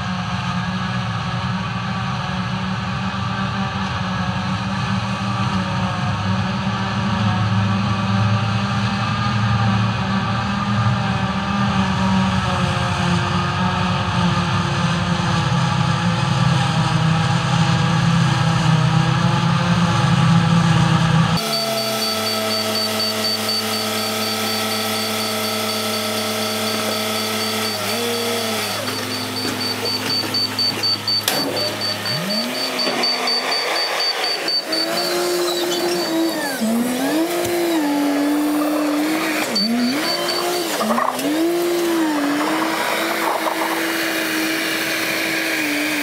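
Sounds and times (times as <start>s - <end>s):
diesel engine revving: 0.0s - 46.0s
tractor engine running steadily: 0.0s - 46.0s.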